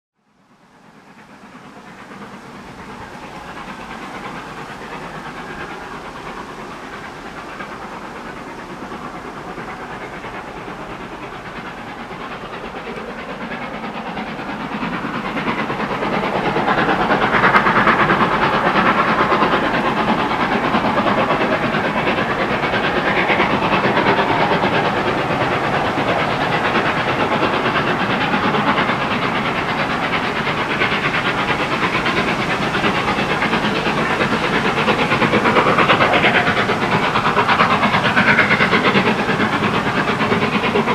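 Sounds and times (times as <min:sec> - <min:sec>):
steam locomotive exhaust and hiss: 0:00.3 - 0:40.9.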